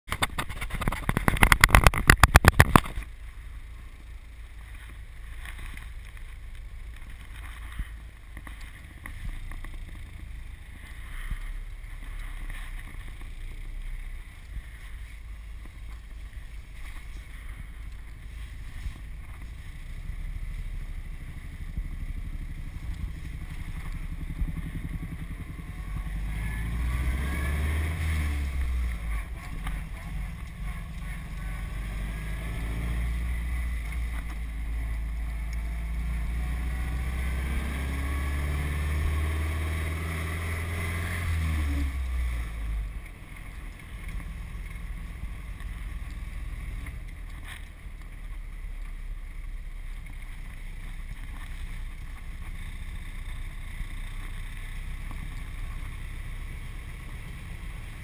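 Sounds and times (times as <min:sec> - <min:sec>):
car engine rumbling while driving: 0:00.0 - 0:58.0
engine whine: 0:00.0 - 0:58.0.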